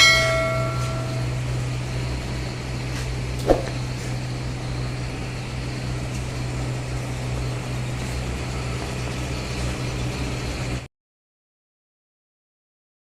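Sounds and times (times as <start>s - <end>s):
air compressor humming: 0.0s - 10.9s.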